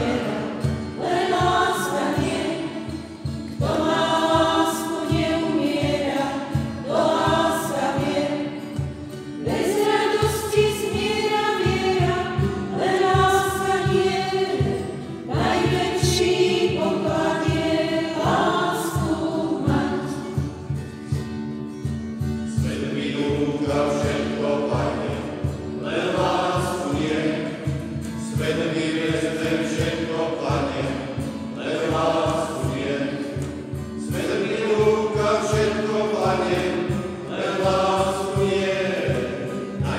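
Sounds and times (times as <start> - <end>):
group of voices singing: 0.0 - 39.9.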